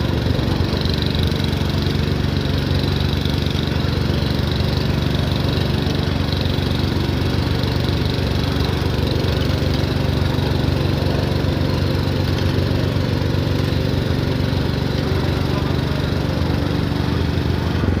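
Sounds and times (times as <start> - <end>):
small tractor engine running: 0.0 - 18.0.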